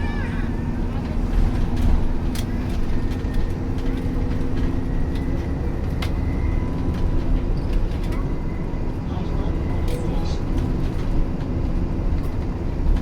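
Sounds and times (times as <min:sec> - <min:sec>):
bus engine and road rumble: 0:00.0 - 0:13.0
constant hum: 0:00.0 - 0:13.0.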